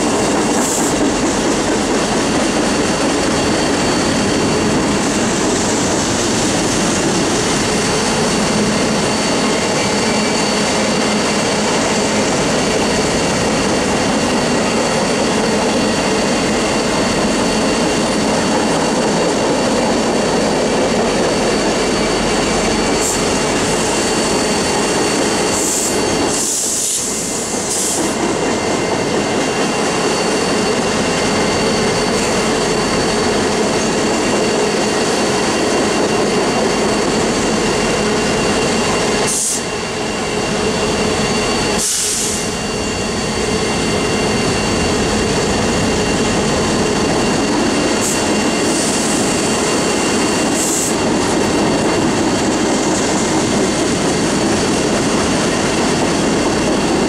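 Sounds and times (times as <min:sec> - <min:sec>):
train wheels rumbling on track: 0:00.0 - 0:57.0
high wheel squeal: 0:02.8 - 0:57.0.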